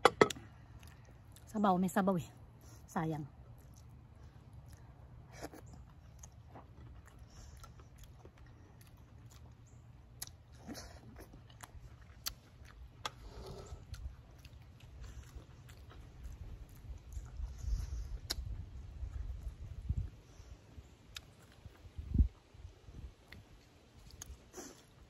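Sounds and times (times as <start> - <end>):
low steady rumble: 0.0 - 25.0
person chewing: 3.5 - 19.7, 21.0 - 25.0.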